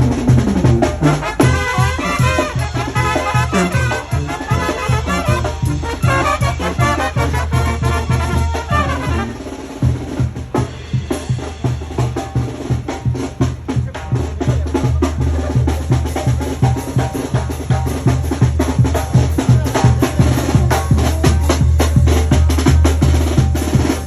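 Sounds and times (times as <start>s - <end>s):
drums and percussion beat: 0.0s - 24.0s
latin dance music: 0.0s - 24.0s.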